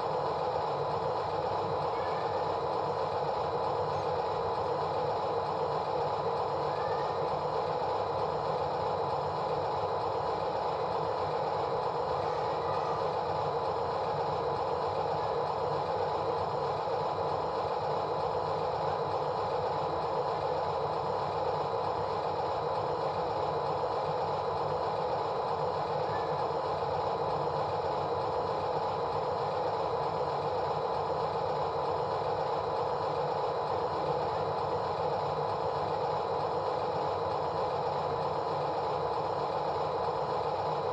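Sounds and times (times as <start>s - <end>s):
steady mechanical hum: 0.0s - 40.9s.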